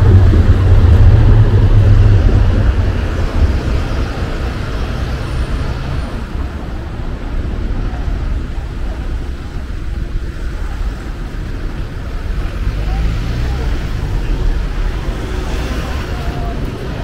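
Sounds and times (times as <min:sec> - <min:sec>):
background traffic noise: 0:00.0 - 0:17.0
tram and car passing: 0:00.0 - 0:17.0.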